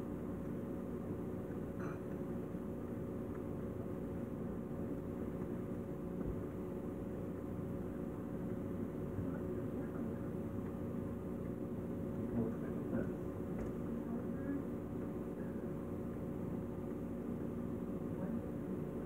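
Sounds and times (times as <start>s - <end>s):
refrigerator humming: 0.0s - 19.0s.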